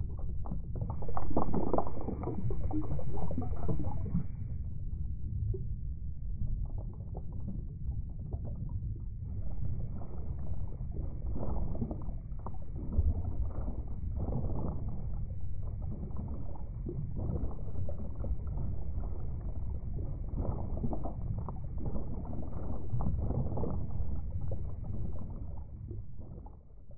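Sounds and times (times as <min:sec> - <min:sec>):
muffled underwater water noise: 0:00.0 - 0:26.9.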